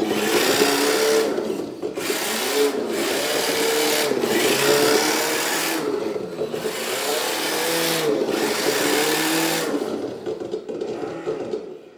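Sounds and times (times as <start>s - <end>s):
rc car electric motor whirring: 0.0s - 10.1s.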